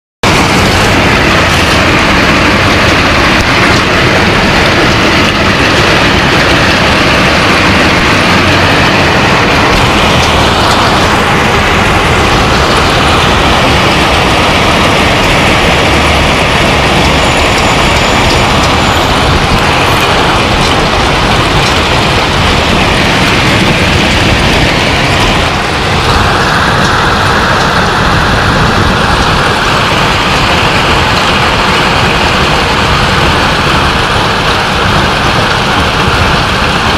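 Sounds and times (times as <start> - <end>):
heavy hail clattering: 0.2 - 36.9.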